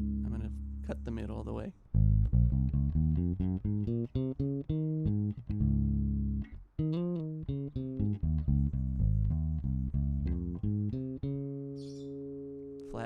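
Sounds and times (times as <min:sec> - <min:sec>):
electric bass plucked notes: 0:00.0 - 0:13.0.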